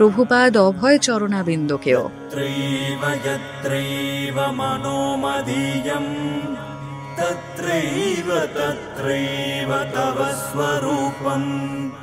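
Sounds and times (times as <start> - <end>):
chant-like sung melody: 1.8 - 12.0.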